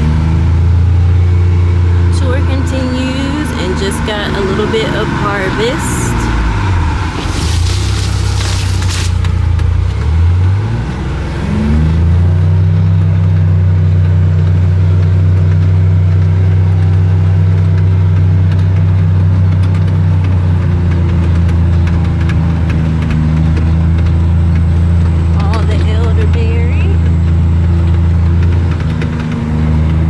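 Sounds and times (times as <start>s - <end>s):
utility vehicle engine: 0.0s - 30.0s.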